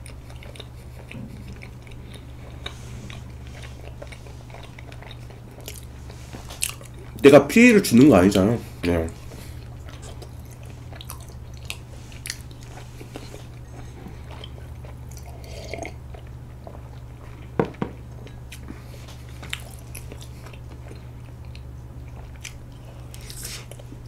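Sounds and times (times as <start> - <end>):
chewing rice cake: 0.0 - 24.0
steady low hum: 0.0 - 24.0.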